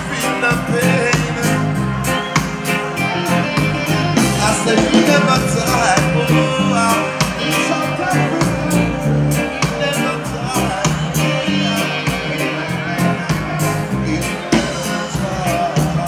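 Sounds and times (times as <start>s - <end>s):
live reggae band playing: 0.0s - 16.0s
man singing: 0.0s - 16.0s.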